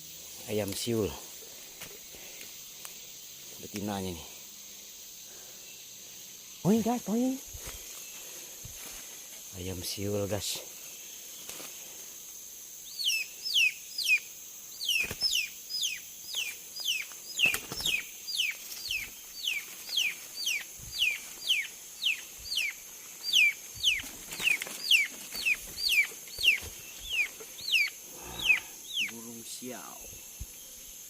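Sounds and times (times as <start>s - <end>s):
forest insects droning: 0.0s - 31.0s.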